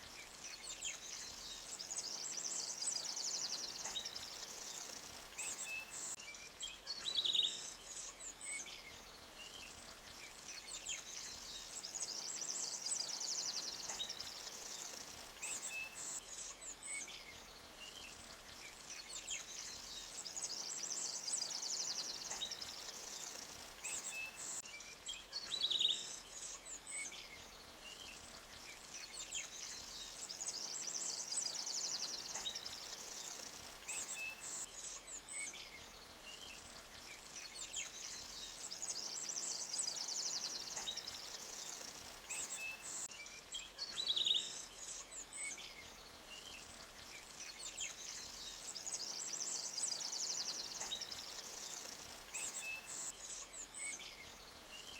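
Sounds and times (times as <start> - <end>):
small stream hissing: 0.0 - 54.9.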